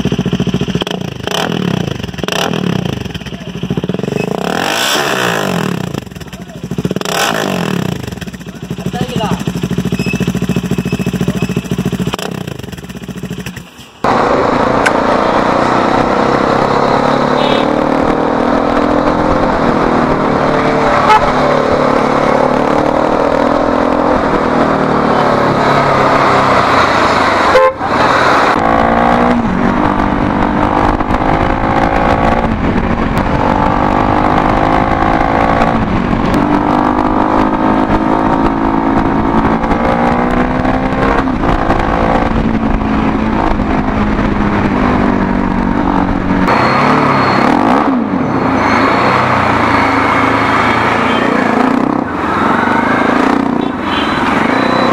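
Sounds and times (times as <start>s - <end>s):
loud motorcycle engine revving: 0.0s - 54.9s.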